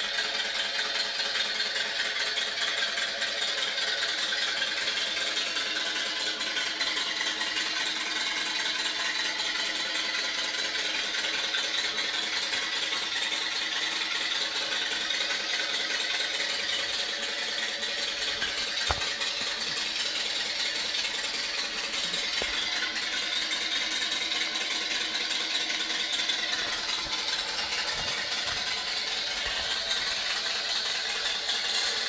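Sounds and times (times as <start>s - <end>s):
machine whirring and rattling: 0.0s - 32.0s.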